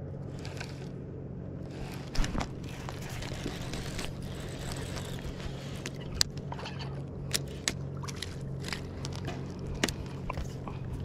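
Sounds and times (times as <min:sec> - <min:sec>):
fishing rod clicks and knocks: 0:02.2 - 0:11.0
water sloshing and dripping: 0:02.2 - 0:11.0.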